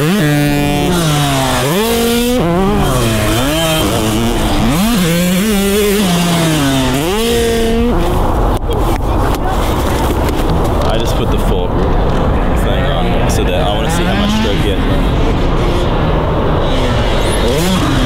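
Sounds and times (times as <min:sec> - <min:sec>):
dirt bike engine revving: 0:00.0 - 0:08.5, 0:10.5 - 0:18.0.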